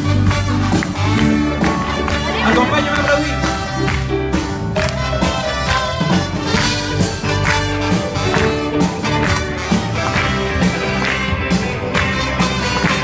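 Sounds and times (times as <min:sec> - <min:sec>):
live band playing instrumental: 0:00.0 - 0:13.0.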